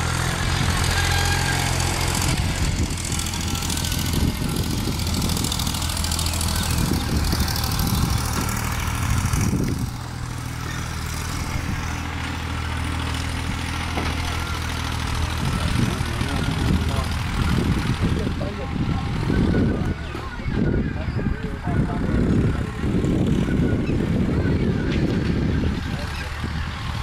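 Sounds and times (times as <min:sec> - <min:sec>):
engine droning hum: 0:00.0 - 0:27.0.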